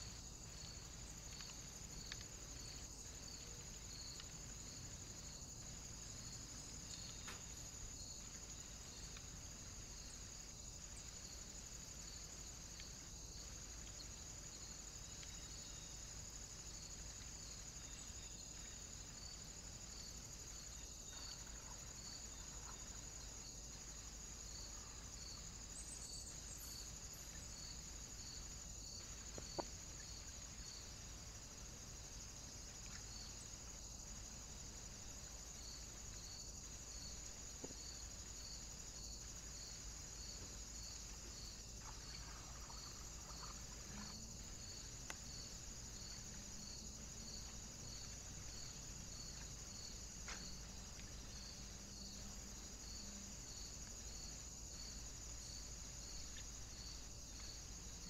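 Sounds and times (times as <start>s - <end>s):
insect chirring: 0.0s - 58.0s.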